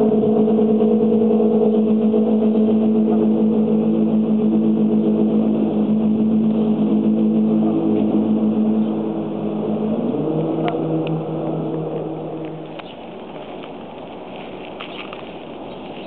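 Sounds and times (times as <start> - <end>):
hull over water: 0.0 - 16.0
speedboat engines droning: 0.0 - 16.0.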